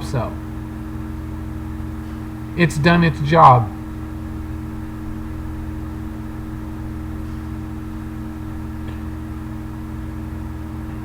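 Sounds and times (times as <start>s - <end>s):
steady low hum: 0.0s - 11.0s
steady tones: 0.0s - 11.0s.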